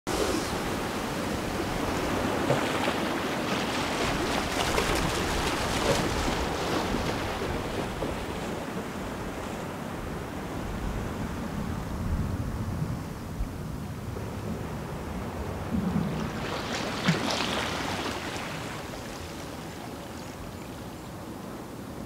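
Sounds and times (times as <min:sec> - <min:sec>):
small waves washing on shore: 0:00.1 - 0:22.0.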